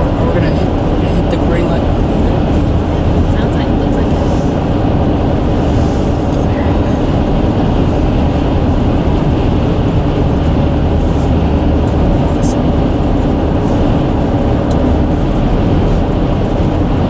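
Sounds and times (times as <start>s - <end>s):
bridge rumbling under traffic: 0.0s - 17.0s.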